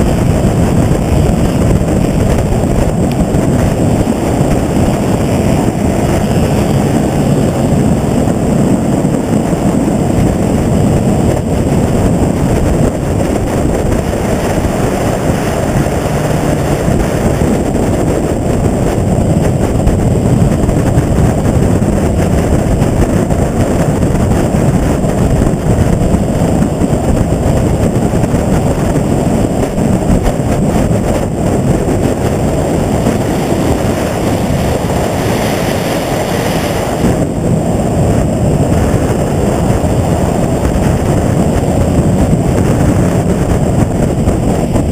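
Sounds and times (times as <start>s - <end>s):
motorcycle engine: 0.0s - 44.9s
wind rushing over microphone: 0.0s - 44.9s.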